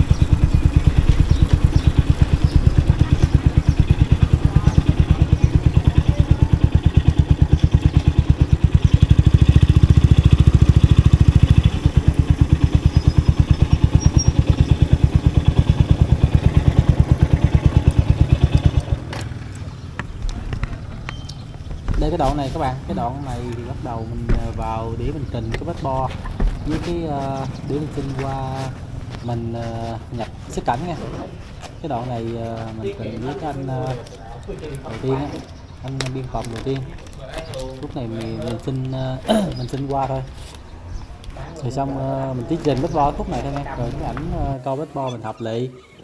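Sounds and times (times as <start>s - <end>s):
motorbike engine running: 0.0s - 40.3s.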